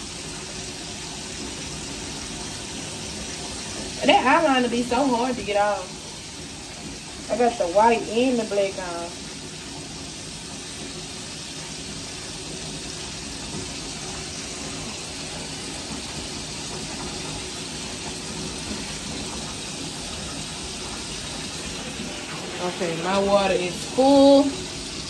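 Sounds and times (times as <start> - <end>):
bathtub filling from tap: 0.0 - 25.0.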